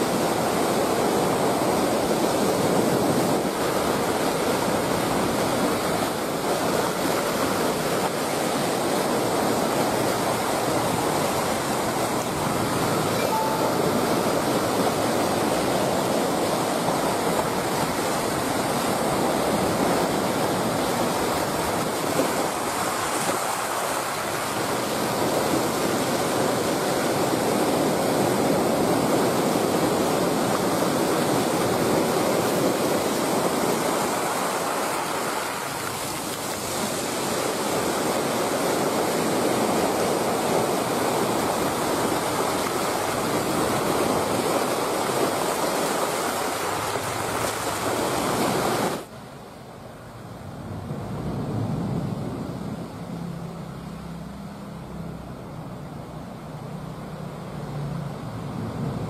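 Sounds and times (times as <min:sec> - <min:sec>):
sea waves rushing: 0:00.0 - 0:59.0.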